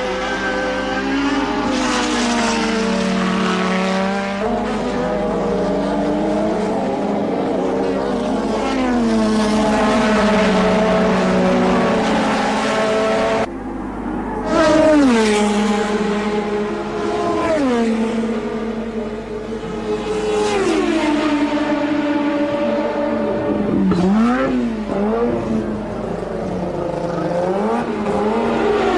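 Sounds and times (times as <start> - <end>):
racing car engines at high revs: 0.0 - 28.9.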